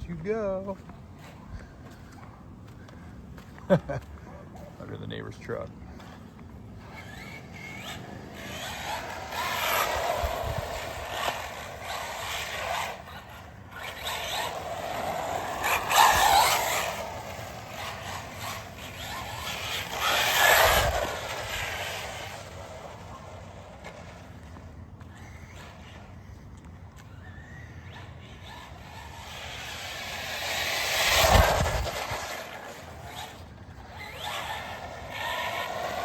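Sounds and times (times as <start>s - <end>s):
tires rushing on ground: 3.5s - 36.0s
rc car motor whine: 4.8s - 36.0s.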